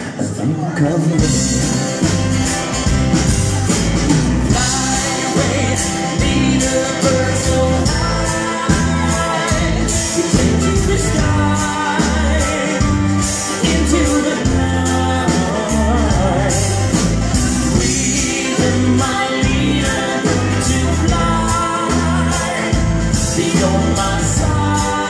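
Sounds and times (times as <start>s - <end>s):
live country band playing: 0.0s - 25.0s
person singing: 4.4s - 25.0s.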